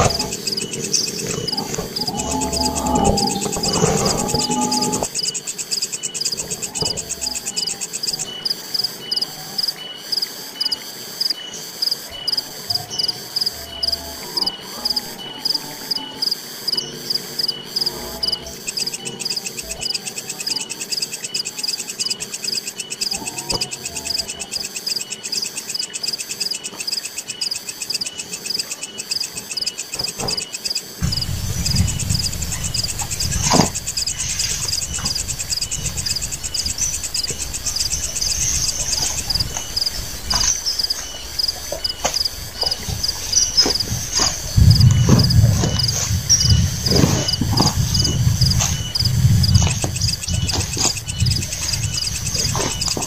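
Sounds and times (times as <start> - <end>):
forest insects chirping: 0.0 - 53.0.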